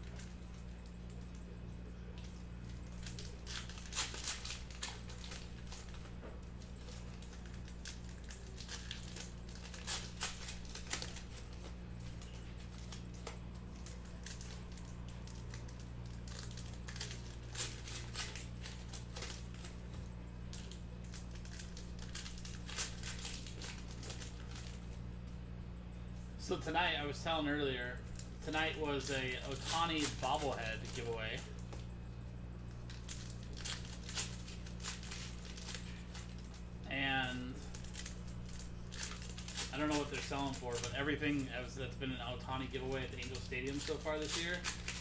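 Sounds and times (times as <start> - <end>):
steady low hum: 0.0 - 45.0
wrappers tearing and crinkling: 2.1 - 25.0, 28.0 - 31.9, 32.7 - 45.0.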